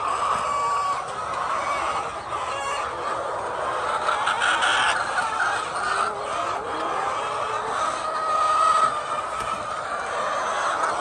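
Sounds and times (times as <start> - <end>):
flock of hens clucking: 0.0 - 11.0.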